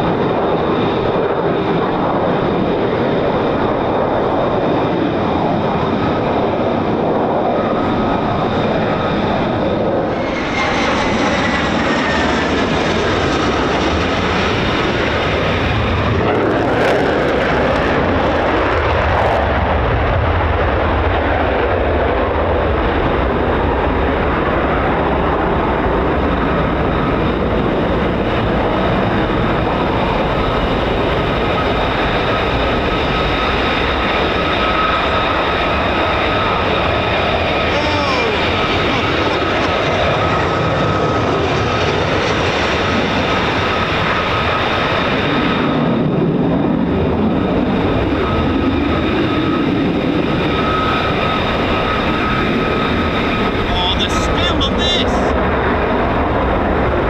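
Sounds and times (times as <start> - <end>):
fighter jet engines roaring: 0.0 - 57.0
jet whine gliding down: 0.0 - 57.0.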